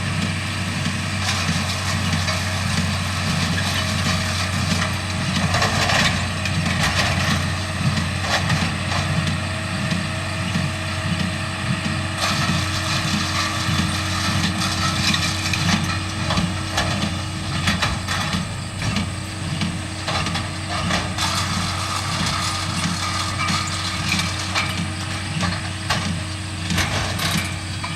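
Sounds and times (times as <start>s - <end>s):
hay baler clattering: 0.0s - 27.9s
tractor engine running: 0.0s - 27.9s.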